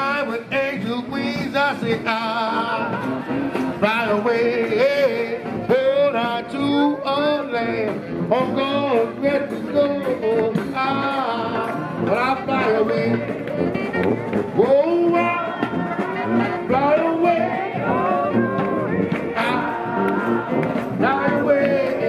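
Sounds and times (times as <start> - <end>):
person singing: 0.0 - 7.8, 8.4 - 22.0
bass drum: 0.0 - 22.0
brass band playing: 0.0 - 22.0.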